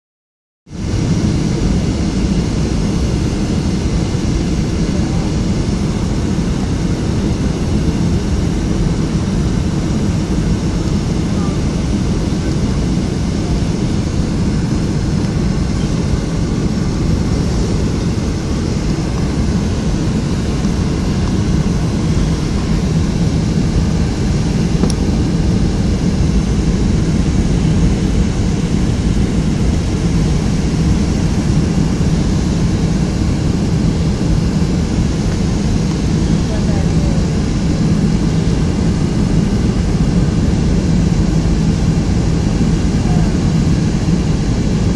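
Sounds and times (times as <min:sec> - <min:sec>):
jet engine cabin rumble: 0:00.7 - 0:44.9.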